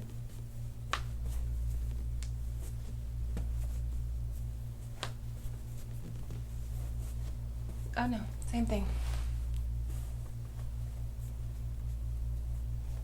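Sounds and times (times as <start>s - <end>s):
low fluttering hum: 0.0s - 13.0s.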